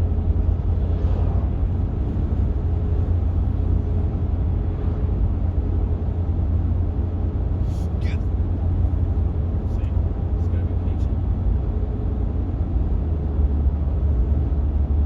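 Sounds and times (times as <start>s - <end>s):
freight train cars rumbling: 0.0s - 15.0s.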